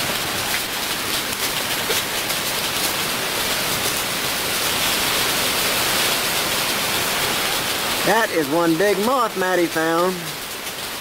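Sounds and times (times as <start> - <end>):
raindrops ticking nearby: 0.0 - 11.0
steady rain hiss: 0.0 - 11.0.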